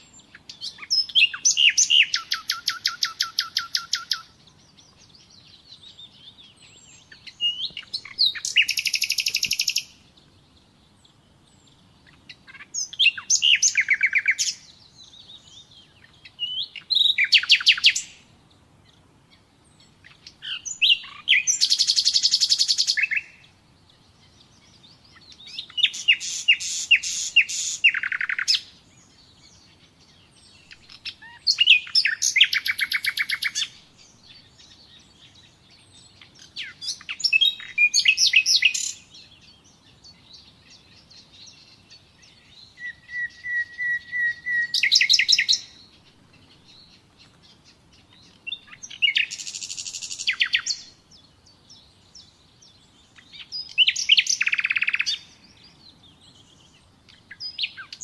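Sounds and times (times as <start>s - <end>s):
nightingale singing: 0.0s - 58.0s.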